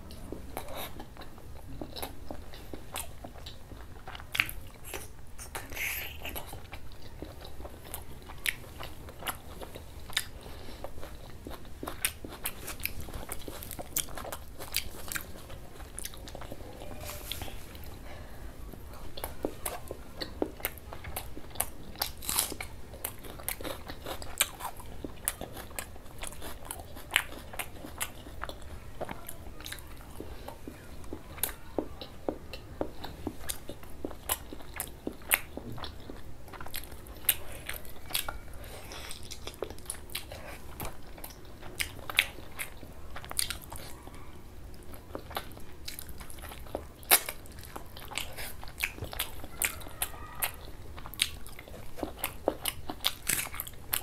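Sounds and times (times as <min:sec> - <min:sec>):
wet chewing with lip-smacks: 0:00.0 - 0:18.0, 0:18.7 - 0:54.0.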